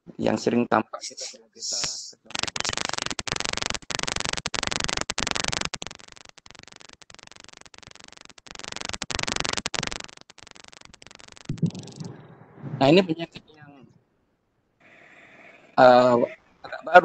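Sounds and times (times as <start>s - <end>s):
harsh static hiss: 0.0s - 13.9s.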